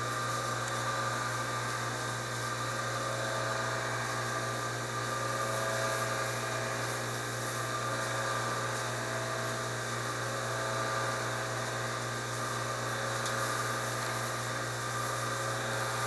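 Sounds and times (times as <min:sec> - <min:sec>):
machine electric hum and whir: 0:00.0 - 0:16.0.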